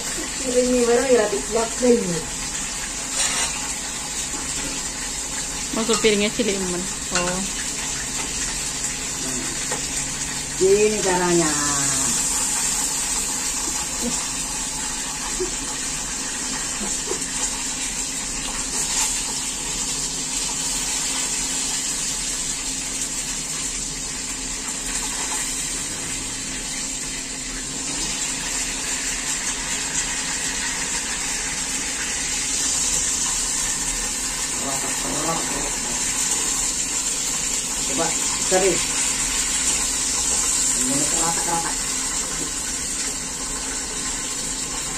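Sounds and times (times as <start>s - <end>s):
fish deep-frying in hot oil: 0.0s - 44.9s.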